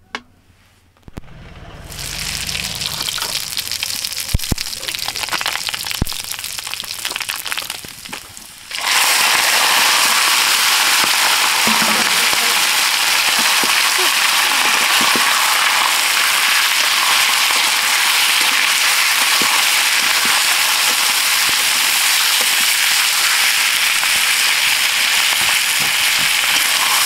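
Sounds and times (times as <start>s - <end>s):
hot oil crackling and popping: 1.0s - 27.0s
chicken sizzling in oil: 1.9s - 27.0s.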